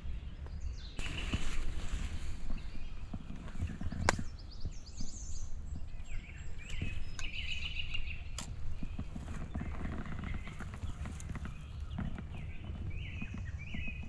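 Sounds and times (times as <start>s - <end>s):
small birds chirping: 0.0s - 14.0s
rustling in dry leaves: 1.0s - 14.0s.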